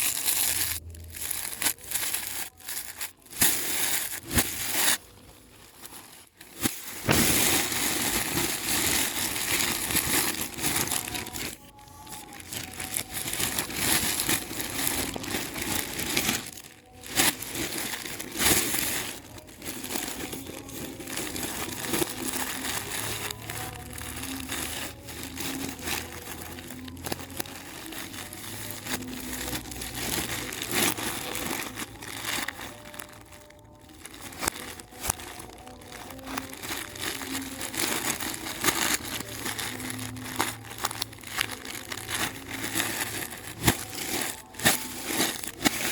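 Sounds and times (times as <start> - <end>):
packaging rustling and crinkling: 0.0 - 45.9.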